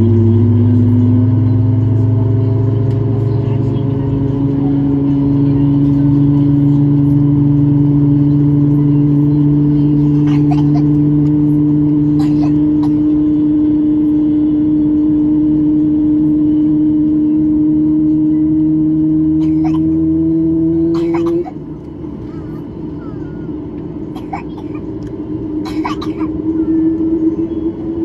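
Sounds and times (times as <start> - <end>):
aircraft engine whining hum: 0.0 - 28.0
low drone: 0.0 - 28.0.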